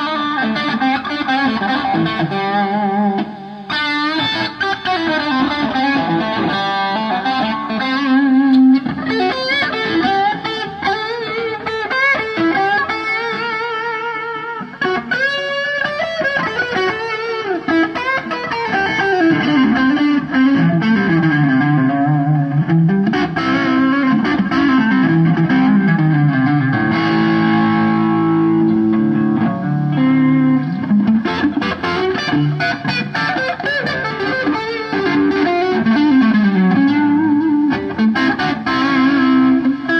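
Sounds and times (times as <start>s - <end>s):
distorted electric guitar melody: 0.0s - 39.9s.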